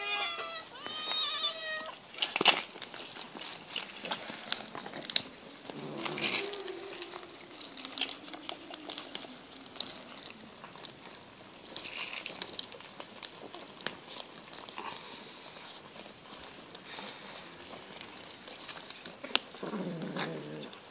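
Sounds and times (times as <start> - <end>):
cats chewing and crunching fish: 0.0 - 20.9
dry leaves crinkling: 0.0 - 20.9.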